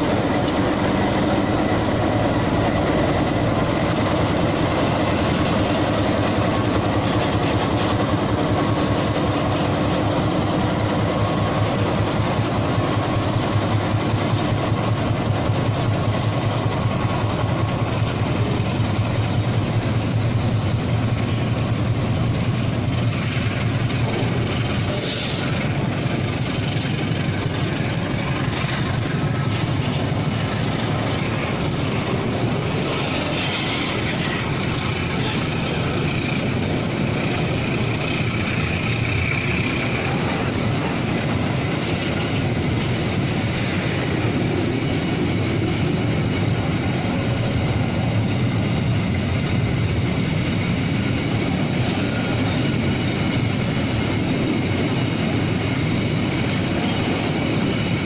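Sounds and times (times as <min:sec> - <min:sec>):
diesel freight train rumble: 0:00.0 - 0:58.0.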